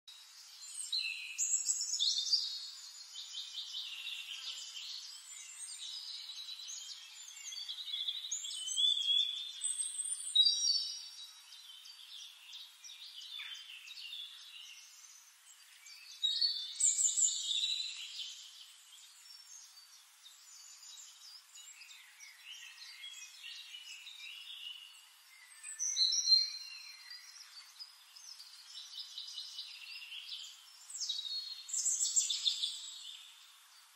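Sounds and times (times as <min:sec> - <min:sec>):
birds chirping and trilling: 0:00.1 - 0:33.9.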